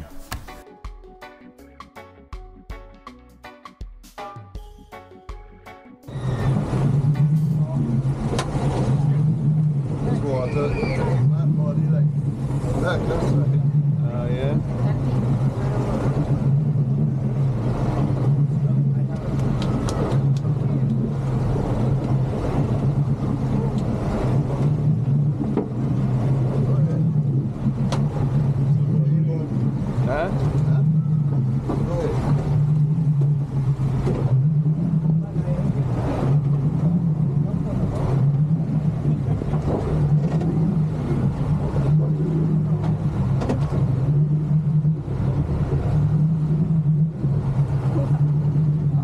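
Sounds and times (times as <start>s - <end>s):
motorboat engine droning: 6.0s - 49.0s
wind and water rushing: 6.1s - 49.0s.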